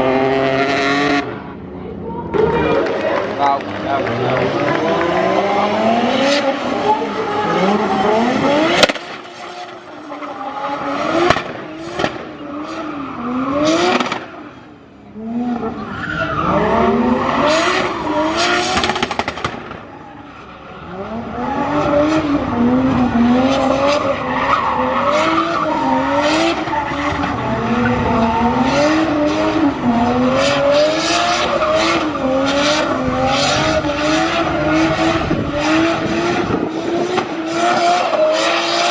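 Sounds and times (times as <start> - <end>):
car engine revving hard: 0.0 - 1.4, 3.6 - 14.4, 15.2 - 19.8, 20.8 - 38.9.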